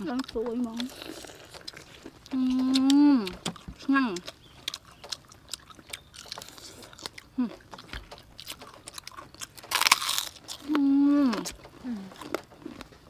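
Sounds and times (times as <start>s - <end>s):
cracker crunch: 0.0s - 13.0s
people crunching and chewing: 0.0s - 13.0s.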